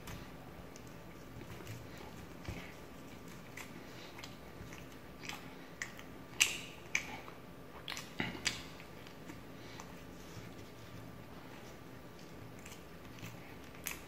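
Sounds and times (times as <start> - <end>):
person chewing and lip smacking: 0.7 - 10.3, 11.7 - 14.0.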